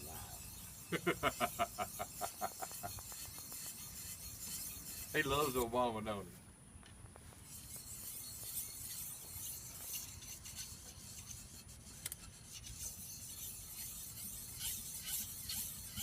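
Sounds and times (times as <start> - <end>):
faint rubbing and rasping: 0.0 - 6.4, 7.2 - 16.0.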